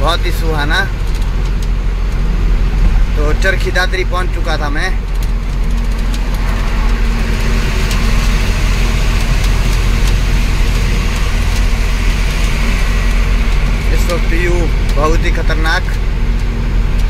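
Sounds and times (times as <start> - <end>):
road noise: 0.0 - 17.0
truck diesel engine running: 0.0 - 17.0.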